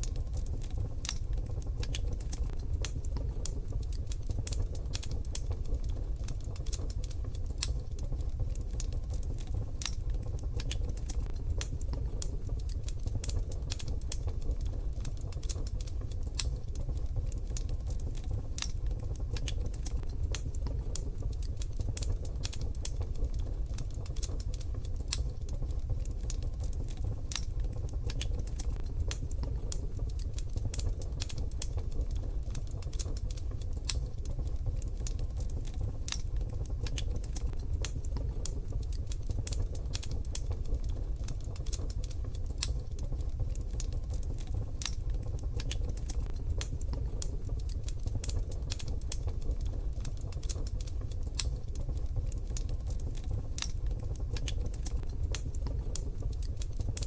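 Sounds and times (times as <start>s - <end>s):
wood fire crackling in stove: 0.0s - 57.0s.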